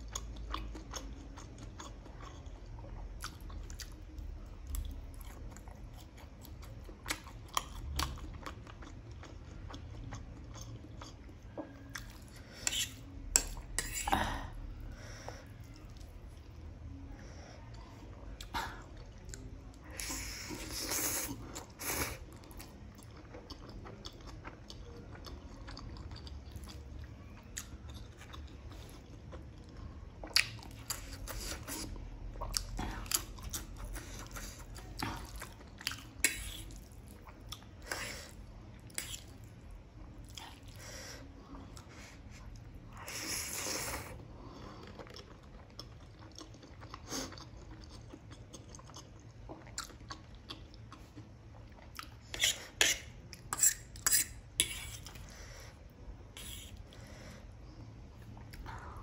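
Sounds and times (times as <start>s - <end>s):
wet chewing of noodles: 0.0s - 16.7s, 17.3s - 59.0s.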